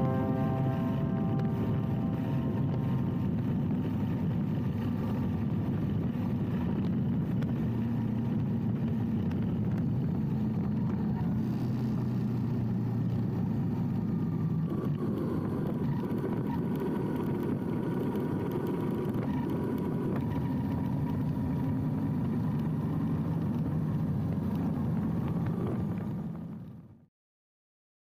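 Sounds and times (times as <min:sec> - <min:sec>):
motorcycle engine cruising: 0:00.0 - 0:26.9.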